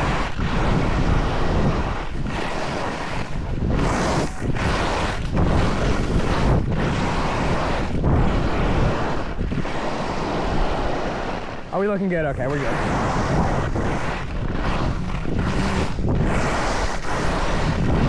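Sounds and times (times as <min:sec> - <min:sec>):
skis scraping over hard snow: 0:00.0 - 0:18.0
wind rushing over microphone: 0:00.0 - 0:18.0.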